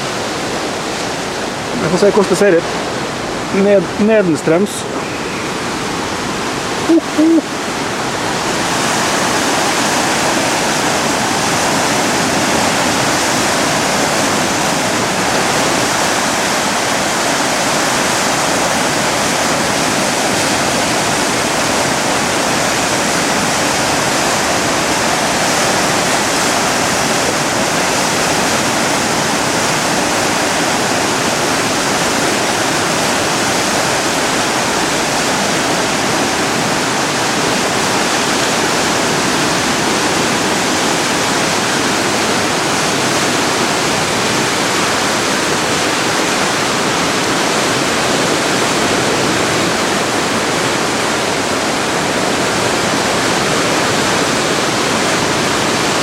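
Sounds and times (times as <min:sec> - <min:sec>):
floodwater rushing: 0:00.0 - 0:56.0.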